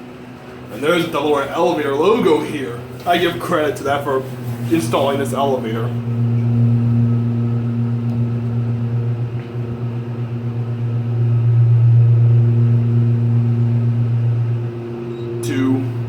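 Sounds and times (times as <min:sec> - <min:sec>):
elevator pump motor humming: 0:00.0 - 0:16.0.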